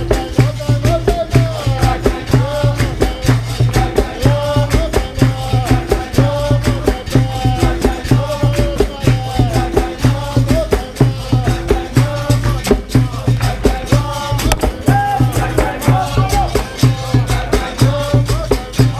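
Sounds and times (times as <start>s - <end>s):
berimbau: 0.0s - 18.9s
low drums: 0.0s - 18.9s
pandeiro: 0.0s - 18.9s
singing: 0.0s - 18.9s.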